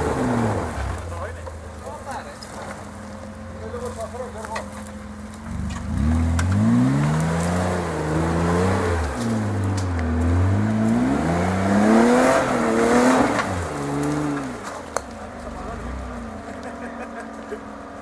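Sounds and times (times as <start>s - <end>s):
engine revving under load: 0.0s - 18.0s
rush of tyres and stones: 0.0s - 18.0s.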